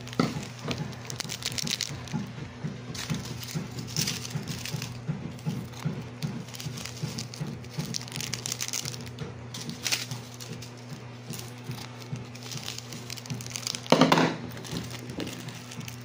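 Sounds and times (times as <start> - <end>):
steady low hum: 0.0 - 16.0
topping crinkling onto plate: 0.0 - 16.0.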